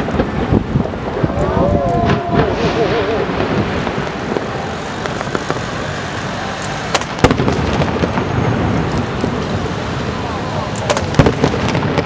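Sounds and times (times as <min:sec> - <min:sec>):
fireworks bursting with bangs: 0:00.0 - 0:12.0
light firework cracks: 0:00.0 - 0:12.0.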